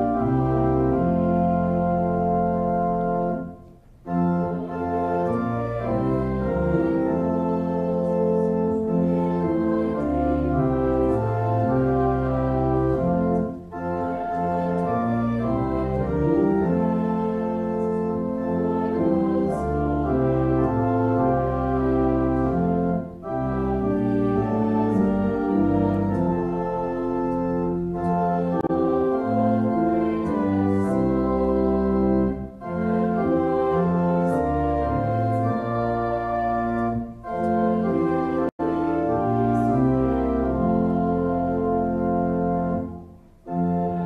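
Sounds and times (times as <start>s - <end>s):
pipe organ chords: 0.0s - 44.0s.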